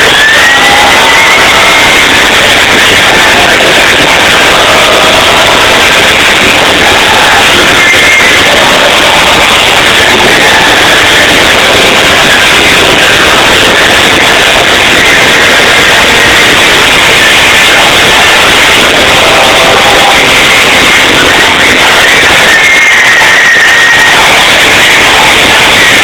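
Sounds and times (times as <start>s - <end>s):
live rock concert: 0.0s - 26.0s.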